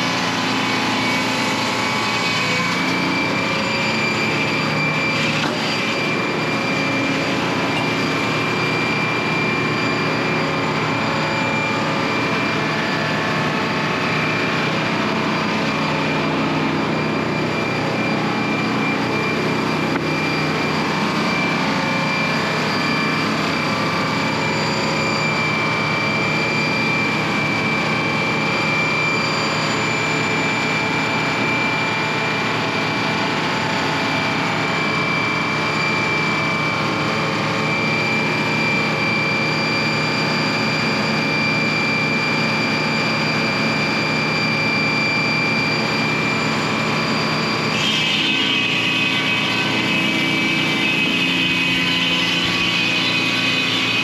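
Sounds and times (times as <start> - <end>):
machine humming with high whine: 0.0 - 54.0.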